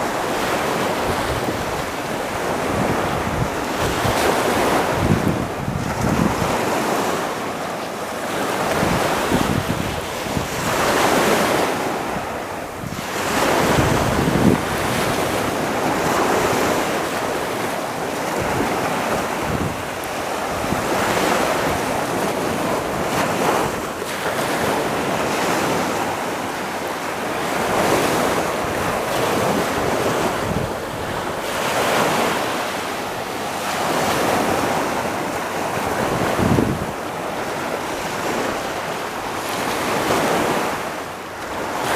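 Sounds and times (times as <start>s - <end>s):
wind buffeting microphone: 0.0s - 40.8s
surf washing onto beach: 0.0s - 41.9s.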